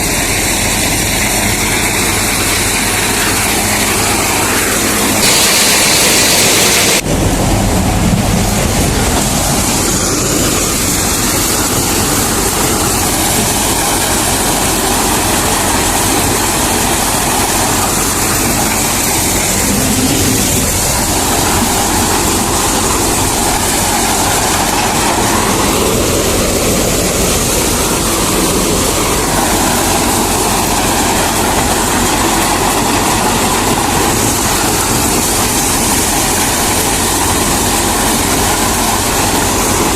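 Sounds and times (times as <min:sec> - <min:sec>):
maize thresher roaring: 0:00.0 - 0:39.9.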